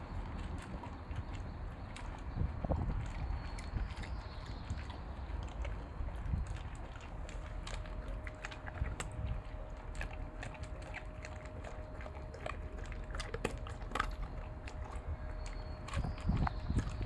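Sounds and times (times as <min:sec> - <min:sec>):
dog chewing food: 0:00.0 - 0:17.0.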